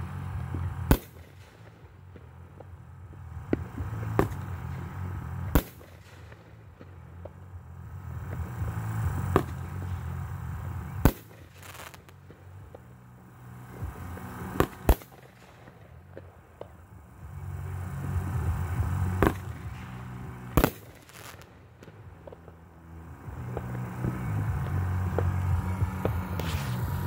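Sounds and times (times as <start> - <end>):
firework shells bursting: 0.0 - 22.6
low steady rumble: 0.0 - 27.0.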